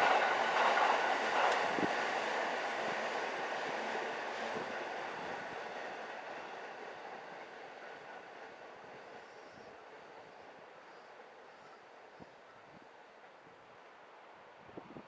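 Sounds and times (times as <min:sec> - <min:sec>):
train running noise: 0:00.0 - 0:13.7.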